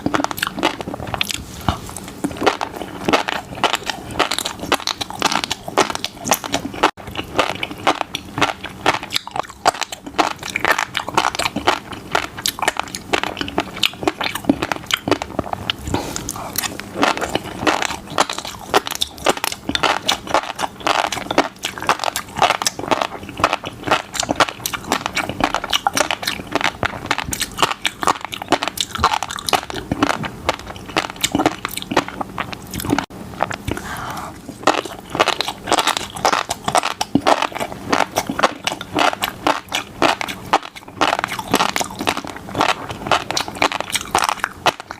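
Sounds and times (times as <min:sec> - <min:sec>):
person chewing wet pops: 0:00.0 - 0:44.9.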